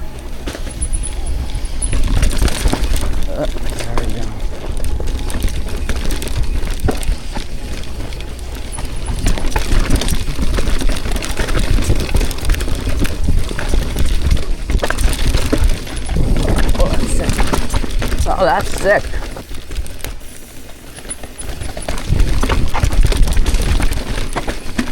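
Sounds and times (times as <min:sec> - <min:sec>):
bike clattering and rattling: 0:00.0 - 0:24.9
wind buffeting microphone: 0:00.7 - 0:20.0, 0:21.9 - 0:24.2.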